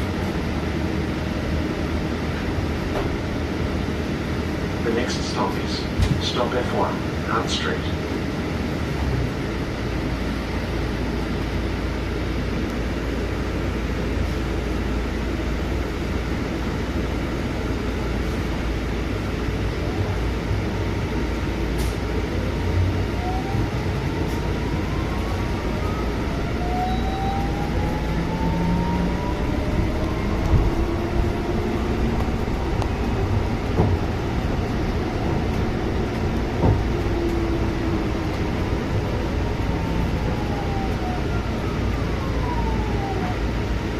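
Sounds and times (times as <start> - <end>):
bus engine and road rumble: 0.0 - 43.9
drivetrain whine: 0.0 - 43.9.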